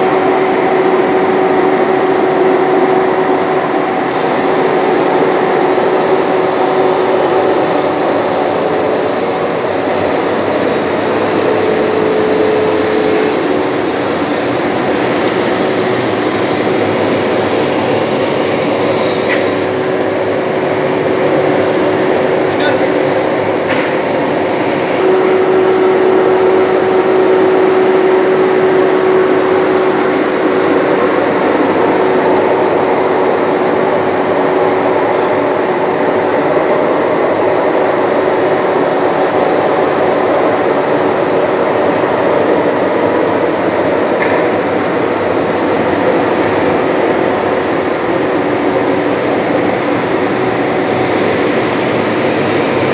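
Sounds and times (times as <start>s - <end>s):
wood planer running: 0.0s - 52.9s.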